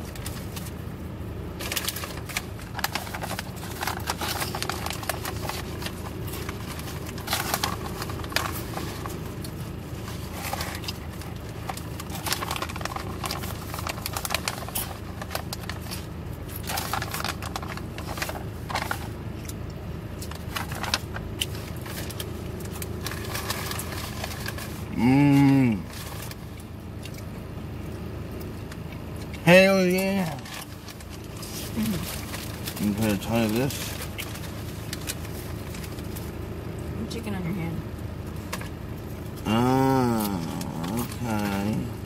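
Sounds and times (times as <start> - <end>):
food wrapper crinkling: 0.0 - 27.3, 27.9 - 36.5, 38.2 - 41.9
car interior hum: 0.0 - 42.0.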